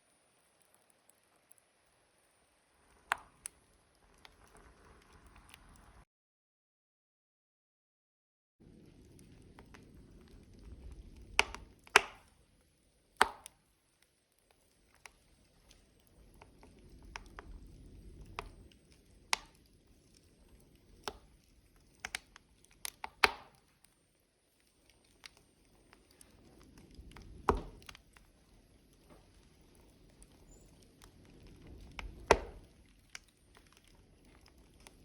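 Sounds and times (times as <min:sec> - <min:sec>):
burning logs crackling: 0:00.0 - 0:06.0, 0:08.6 - 0:35.0
low rumble of flame: 0:00.1 - 0:06.0, 0:08.6 - 0:35.0.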